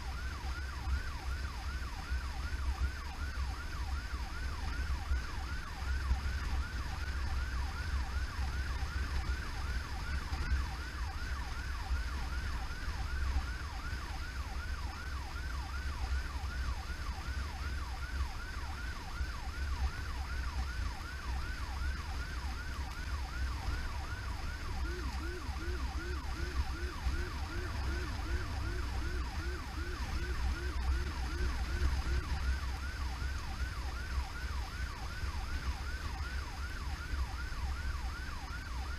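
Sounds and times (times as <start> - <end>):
low rumble of moving vehicle: 0.0 - 38.9
lower-pitched siren yelp: 0.0 - 38.9
siren fast yelp: 0.0 - 38.9.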